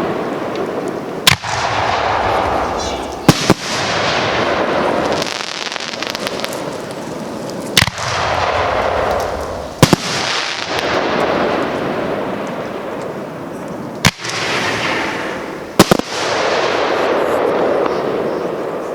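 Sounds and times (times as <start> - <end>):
fireworks crackling: 0.0 - 18.9
firework shells bursting with bangs: 0.6 - 13.0, 14.0 - 18.0.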